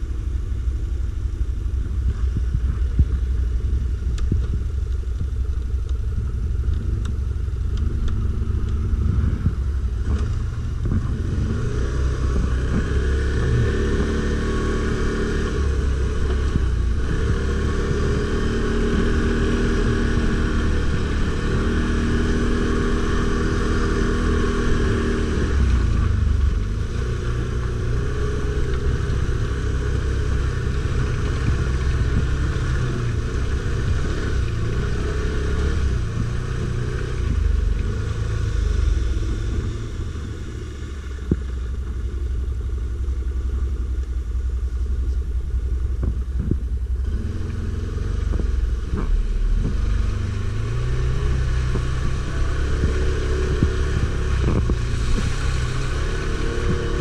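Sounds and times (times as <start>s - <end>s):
atv engine revving: 2.0s - 57.0s.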